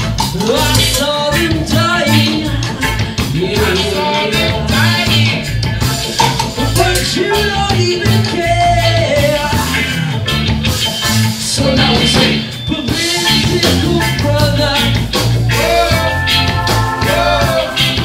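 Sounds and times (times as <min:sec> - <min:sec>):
man singing: 0:00.0 - 0:10.4, 0:11.3 - 0:18.0
electric guitar: 0:00.0 - 0:18.0
keyboard: 0:00.0 - 0:18.0
low bass line: 0:00.0 - 0:18.0.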